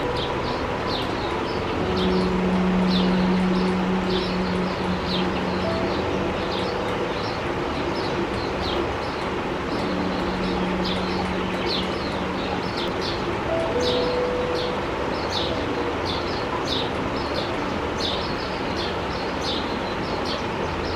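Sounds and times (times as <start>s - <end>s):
sparrows chirping: 0.0s - 20.5s
background hum and rush: 0.0s - 20.9s.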